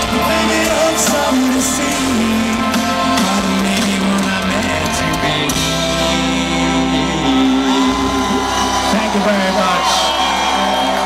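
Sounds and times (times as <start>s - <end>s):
drums: 0.0s - 11.0s
electric guitar: 0.0s - 11.0s.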